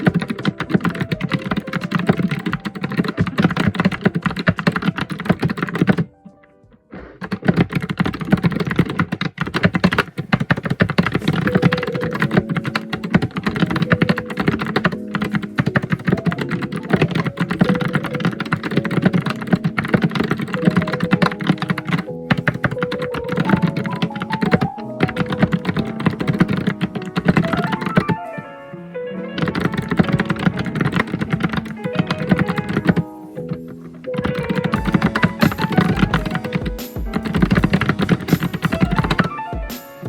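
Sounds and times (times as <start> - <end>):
fast typing on keyboard: 0.0 - 6.1, 7.1 - 28.2, 29.4 - 39.7
melodic background music: 0.0 - 40.0.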